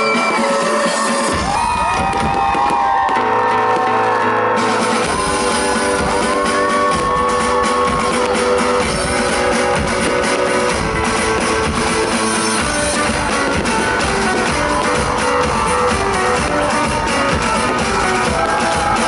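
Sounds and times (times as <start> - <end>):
pop-rock band playing: 0.0 - 19.0
gliding lead melody: 3.2 - 19.0.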